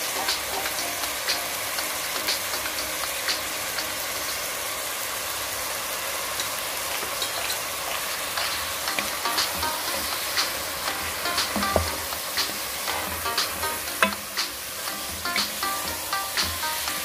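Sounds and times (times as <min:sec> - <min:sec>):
meat sizzling in oil: 0:00.0 - 0:17.0
oil popping and crackling: 0:00.0 - 0:17.0.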